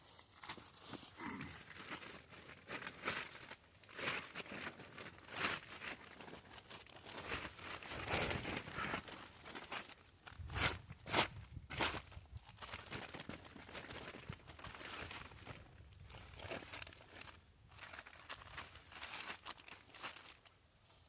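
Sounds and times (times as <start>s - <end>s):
crinkling and rustling: 0.0s - 21.0s.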